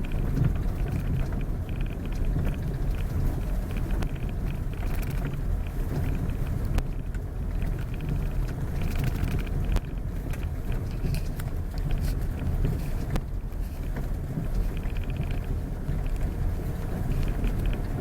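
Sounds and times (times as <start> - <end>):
vehicle rumbling: 0.0 - 18.0.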